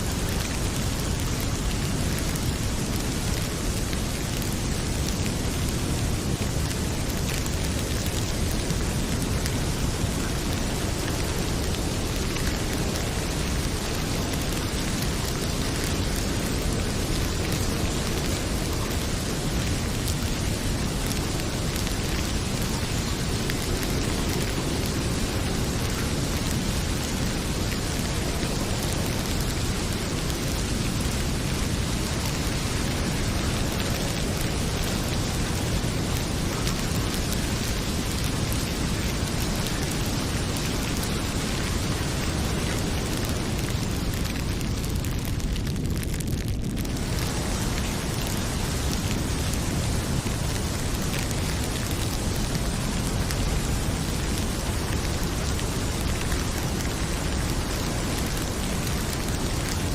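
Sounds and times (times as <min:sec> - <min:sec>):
heavy rain pouring: 0:00.0 - 0:59.9
wood fire crackling: 0:00.0 - 0:59.9.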